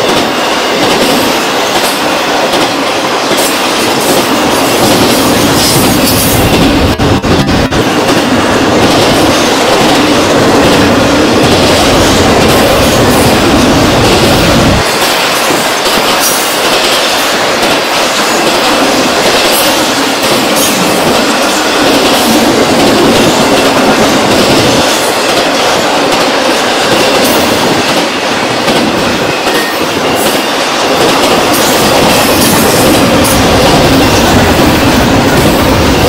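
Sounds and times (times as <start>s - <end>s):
freight train rumbling past: 0.0s - 36.0s.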